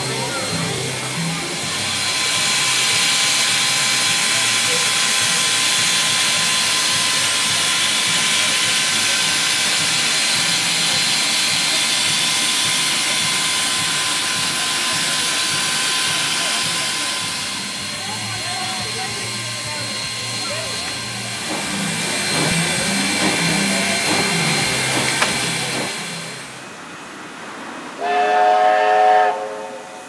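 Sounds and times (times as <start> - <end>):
steam hissing from locomotive: 0.0 - 30.0.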